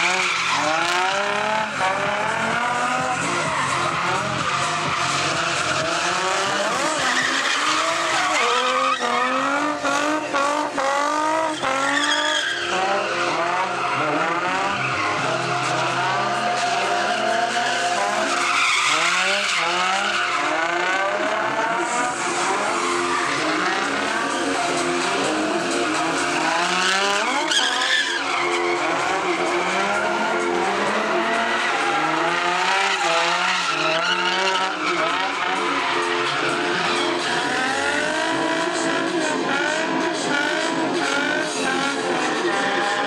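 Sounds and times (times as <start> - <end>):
tyres screeching: 0.0 - 39.1
car engine revving: 0.0 - 43.0.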